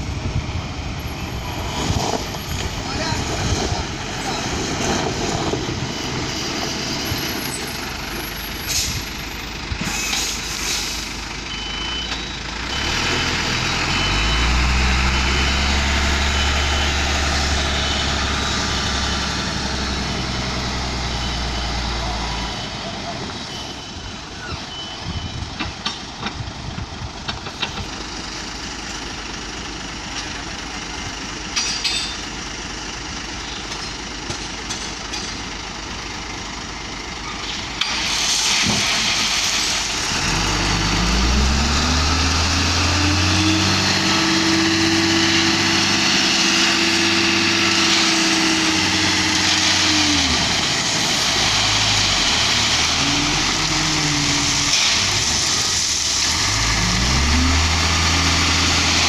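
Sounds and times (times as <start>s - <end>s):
diesel truck engine idling and revving: 0.0s - 59.0s.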